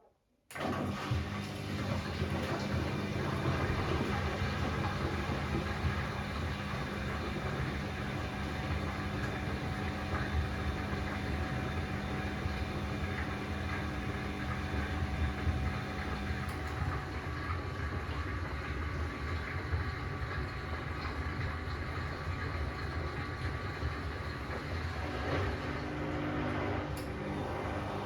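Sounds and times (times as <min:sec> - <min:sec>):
washing machine spinning: 0:00.5 - 0:28.0.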